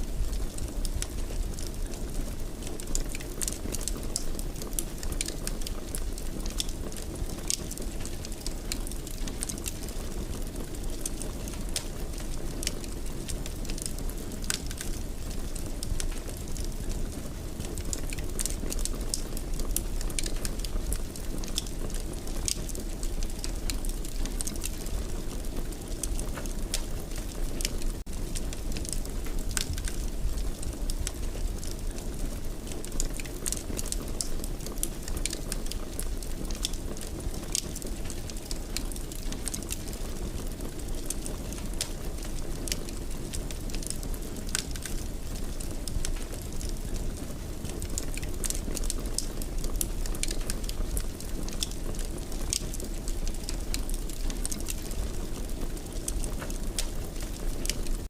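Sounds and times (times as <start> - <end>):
fire rumbling: 0.0 - 58.0
fire crackling and popping: 0.1 - 58.0.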